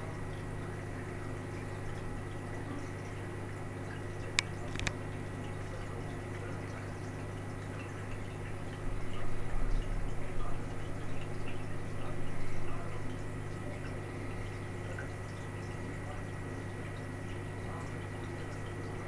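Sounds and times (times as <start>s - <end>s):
aquarium equipment humming: 0.0s - 19.0s
water trickling and bubbling: 0.0s - 19.0s.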